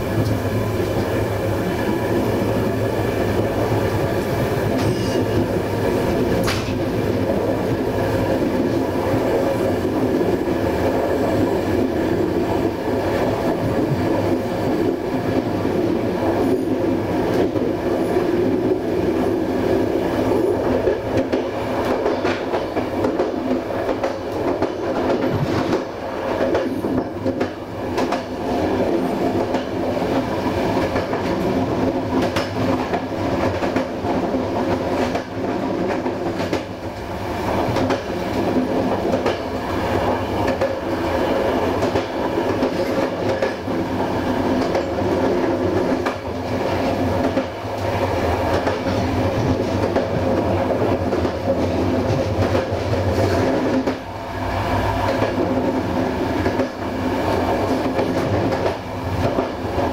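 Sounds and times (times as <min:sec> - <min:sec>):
rail joint clicks: 0:00.0 - 0:59.9
train wheels rumbling on rail: 0:00.0 - 0:59.9.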